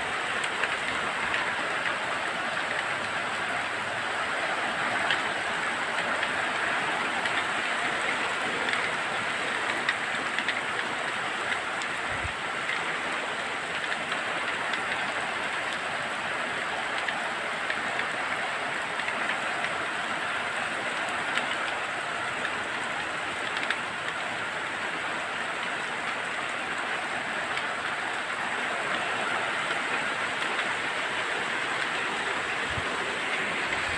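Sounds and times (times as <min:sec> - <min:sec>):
heavy rain on metal roof: 0:00.0 - 0:33.9.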